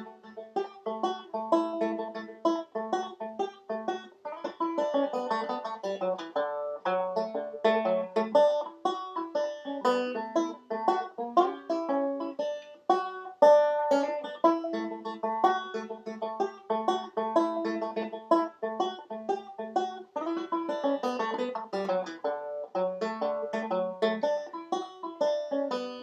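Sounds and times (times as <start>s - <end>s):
banjo music: 0.0s - 26.0s.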